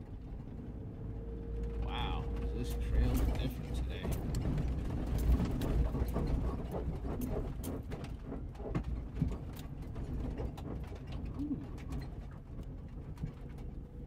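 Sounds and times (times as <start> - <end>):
engine and tyre rumble: 0.0 - 14.0
clicks knocks and rattles: 2.3 - 13.9.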